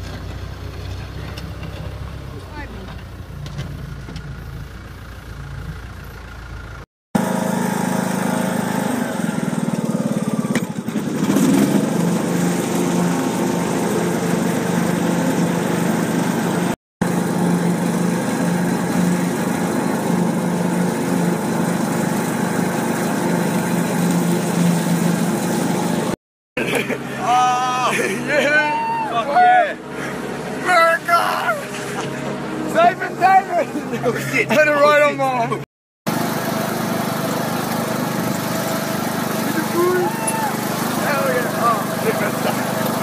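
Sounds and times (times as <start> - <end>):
ride-on lawn mower engine: 0.0 - 43.0
skid-steer loader engine: 0.0 - 43.0.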